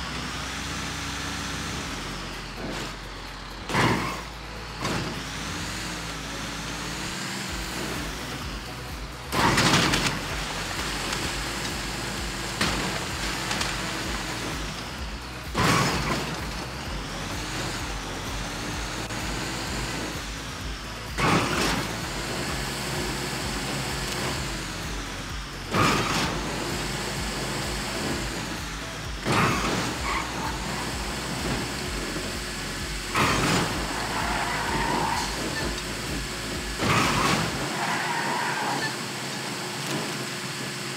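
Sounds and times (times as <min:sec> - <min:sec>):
vehicle jolt: 0:00.0 - 0:40.9
vehicle rumbling on rough track: 0:00.0 - 0:40.9.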